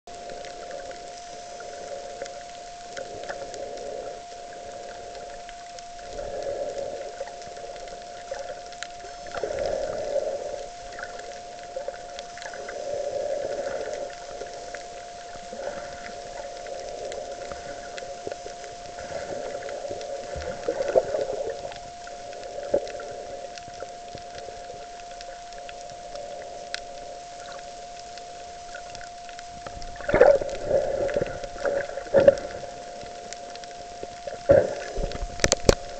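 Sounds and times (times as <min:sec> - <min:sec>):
muffled underwater noise: 0:00.1 - 0:35.9.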